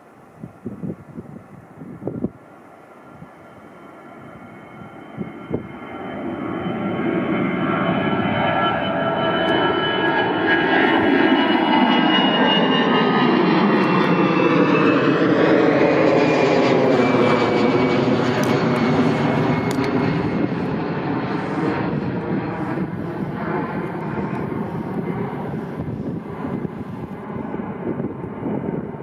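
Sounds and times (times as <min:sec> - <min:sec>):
jet engines roaring with whine: 0:00.0 - 0:29.0.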